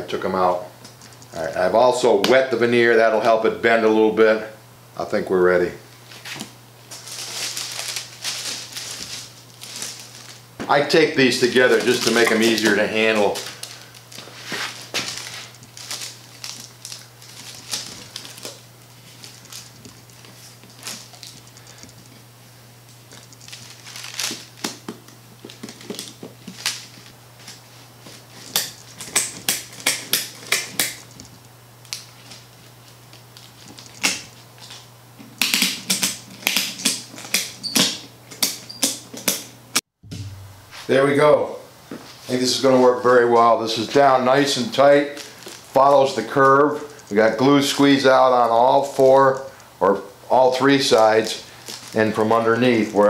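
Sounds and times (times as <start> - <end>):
steady low hum: 0.0 - 38.6, 39.4 - 53.0.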